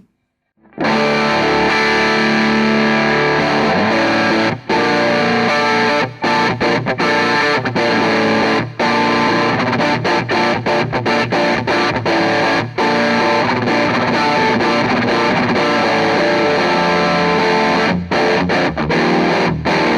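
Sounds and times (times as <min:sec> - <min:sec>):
distorted electric guitar: 0:00.0 - 0:19.9.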